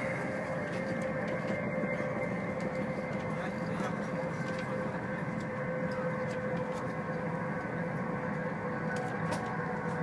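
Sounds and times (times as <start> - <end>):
steady hum: 0.0 - 10.0
train cabin rumble: 0.0 - 10.0.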